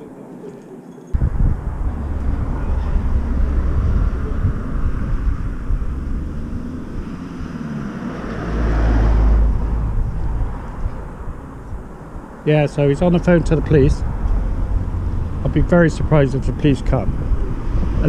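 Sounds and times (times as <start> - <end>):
wind buffeting microphone: 1.2 - 18.0.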